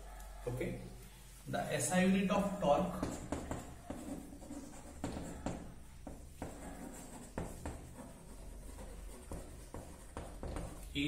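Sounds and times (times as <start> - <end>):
chalk writing on a blackboard: 1.8 - 11.0.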